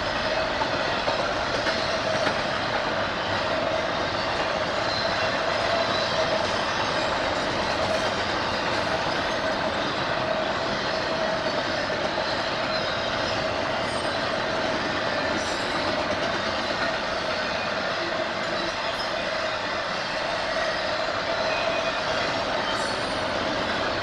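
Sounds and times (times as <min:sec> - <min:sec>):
train wheels on rail: 0:00.0 - 0:24.0.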